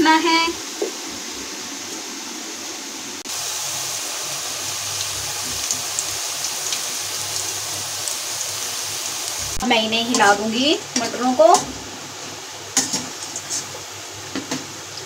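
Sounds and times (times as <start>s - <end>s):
oil sizzling with crackles: 0.0s - 15.0s.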